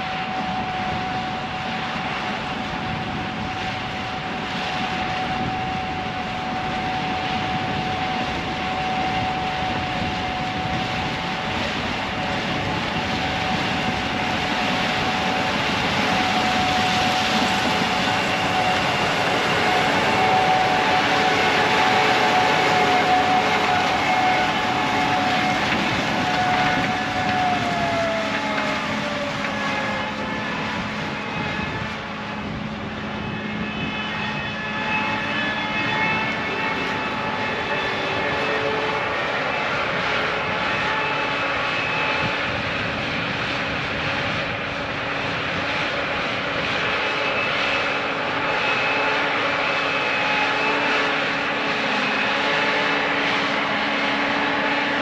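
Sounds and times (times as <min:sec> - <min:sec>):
combine harvester drone: 0:00.0 - 0:55.0
high machinery whines: 0:00.0 - 0:55.0.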